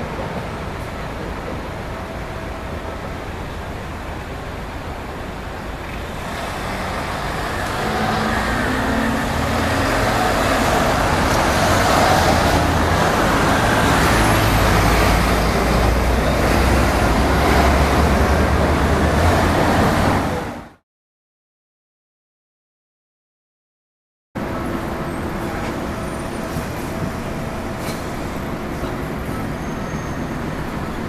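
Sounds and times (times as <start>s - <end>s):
car and heavy vehicle engines: 0.0s - 20.8s, 24.4s - 31.0s.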